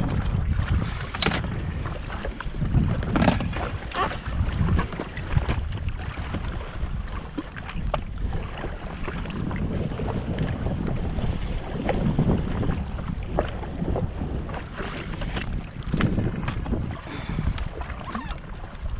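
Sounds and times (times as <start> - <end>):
water splashing against jetski: 0.0 - 18.9
wind buffeting microphone: 0.0 - 18.9.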